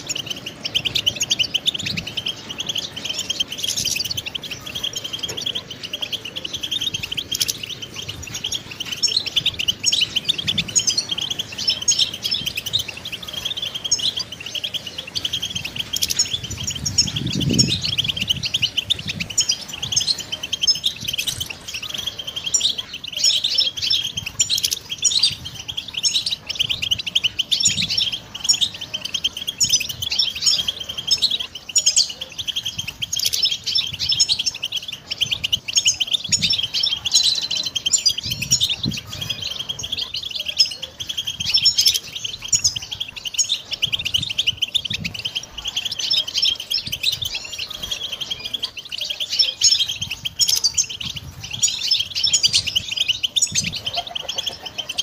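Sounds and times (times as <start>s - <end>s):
bird twittering song: 0.0s - 55.0s.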